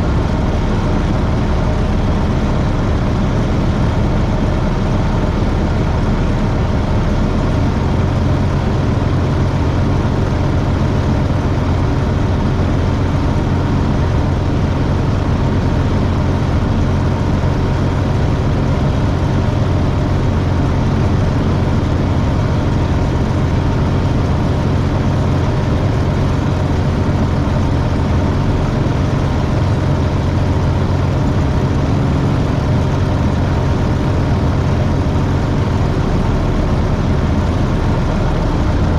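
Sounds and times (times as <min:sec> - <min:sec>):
light aircraft engine running: 0:00.0 - 0:38.9.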